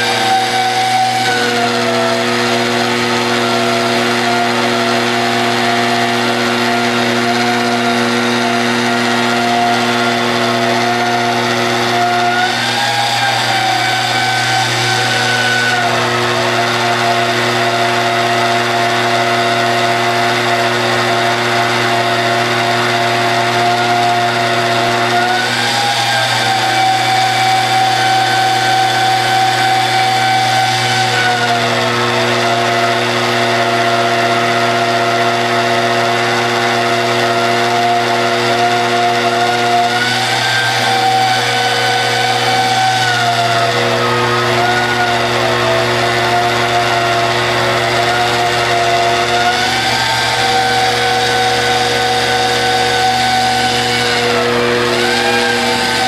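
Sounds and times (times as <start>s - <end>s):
magnetic drill whining: 0.0s - 56.0s.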